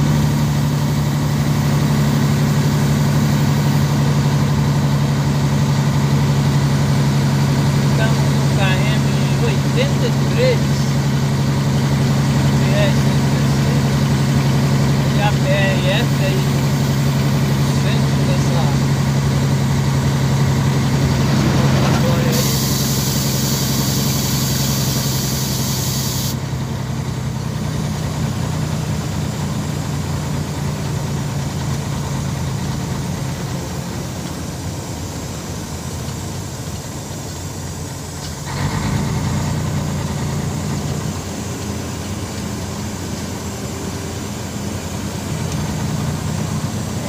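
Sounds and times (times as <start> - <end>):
road noise: 0.0 - 47.0
vehicle engine running: 0.0 - 47.0.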